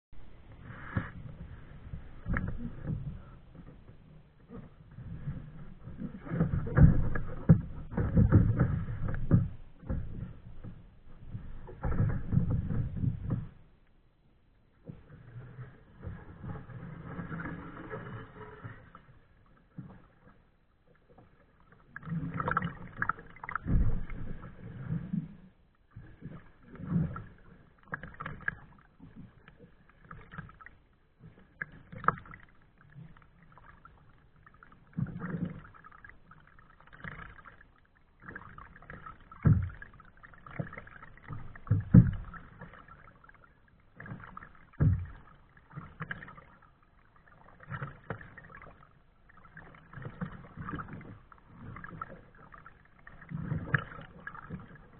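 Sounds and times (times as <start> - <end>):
paddle splashing in water: 0.2 - 13.7, 14.8 - 54.9.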